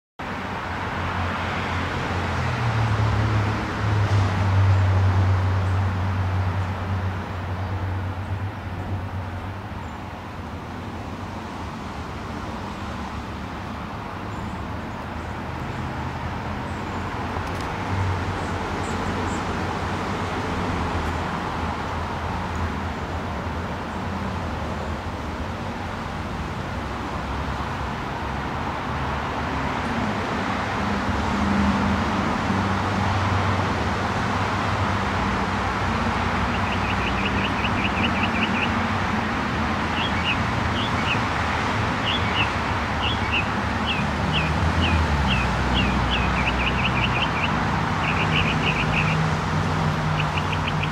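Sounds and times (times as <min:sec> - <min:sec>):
distant road traffic rumble: 0:00.2 - 0:50.9.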